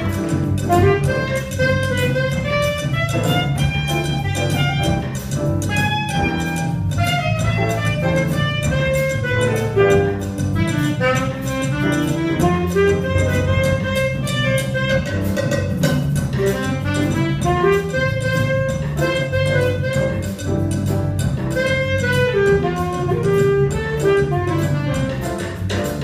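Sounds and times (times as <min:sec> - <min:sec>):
saxophones playing melody: 0:00.0 - 0:20.7, 0:21.5 - 0:25.8
drums and cymbals: 0:00.0 - 0:26.0.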